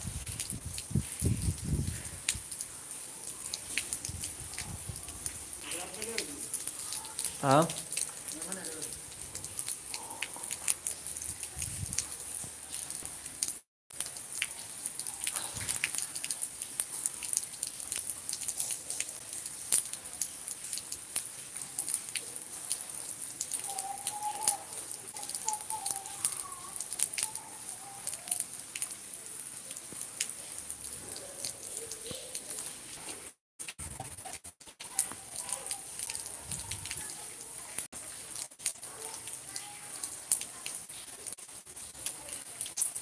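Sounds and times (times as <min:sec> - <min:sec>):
rain hissing: 0:00.0 - 0:43.0
raindrops ticking on surfaces: 0:00.0 - 0:43.0.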